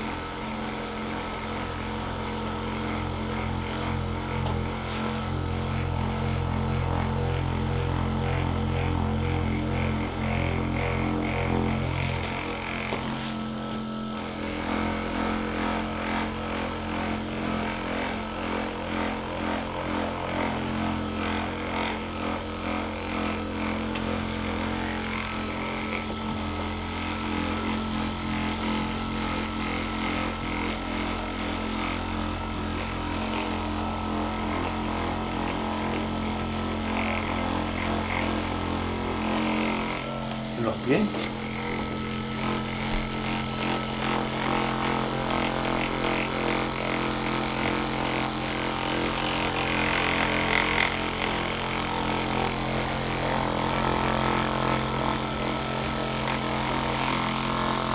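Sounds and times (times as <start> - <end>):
electric massager motor hum: 0.0 - 57.9.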